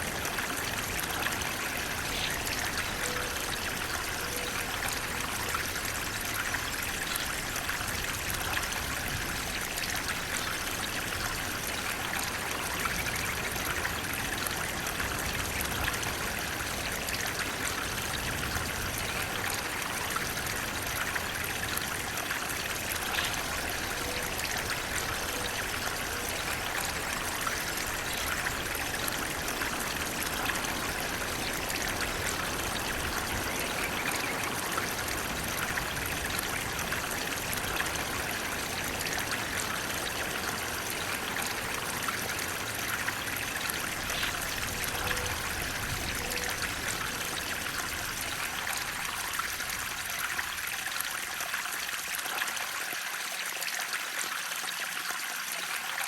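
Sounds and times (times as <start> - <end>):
water rushing and splashing: 0.0 - 56.0.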